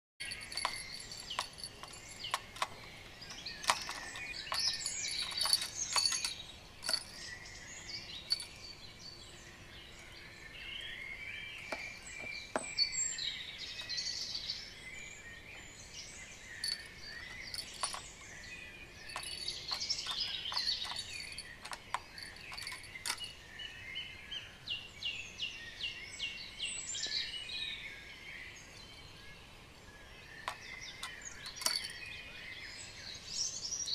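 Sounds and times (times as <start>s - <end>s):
songbirds chirping: 0.2s - 33.9s.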